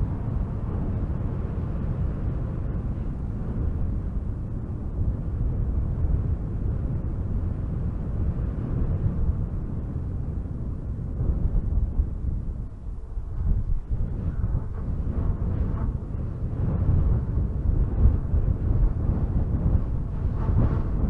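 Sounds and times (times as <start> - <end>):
strong wind gusting through trees: 0.0 - 21.0.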